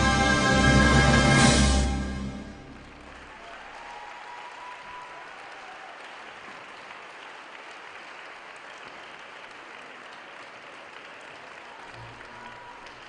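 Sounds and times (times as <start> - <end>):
audience applauding: 2.3 - 13.0.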